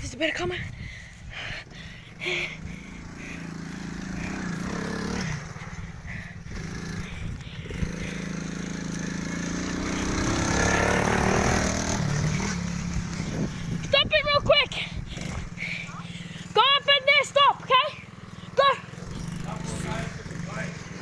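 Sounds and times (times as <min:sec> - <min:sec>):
motorbike engine revving: 0:01.3 - 0:21.0.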